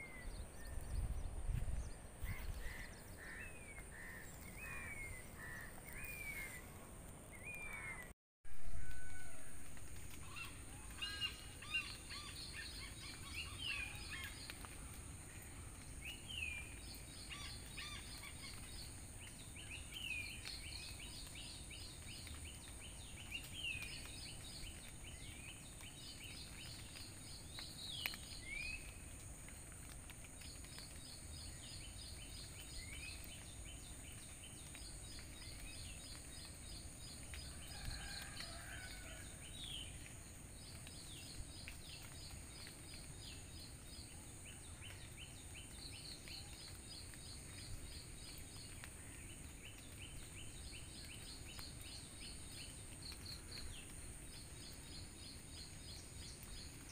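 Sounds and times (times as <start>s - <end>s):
low outdoor background noise: 0.0s - 56.9s.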